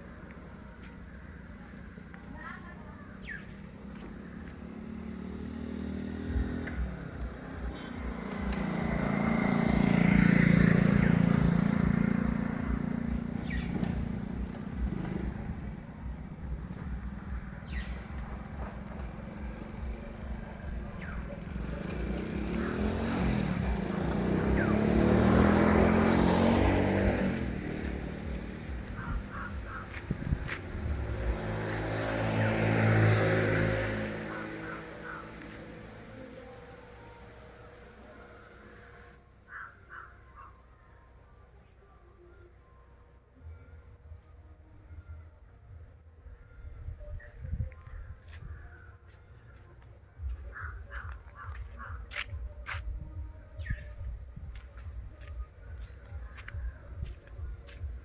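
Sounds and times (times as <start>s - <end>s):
motorcycle engines passing by: 0.0s - 40.7s, 46.2s - 58.0s.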